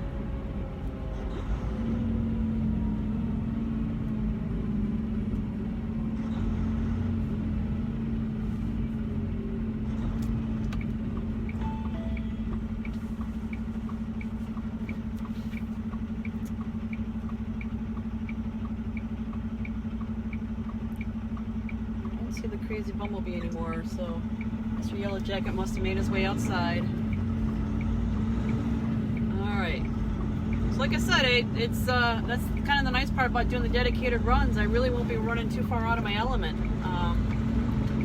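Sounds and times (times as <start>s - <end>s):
truck diesel engine running: 0.0s - 38.0s
turn signal ticking: 7.0s - 38.0s.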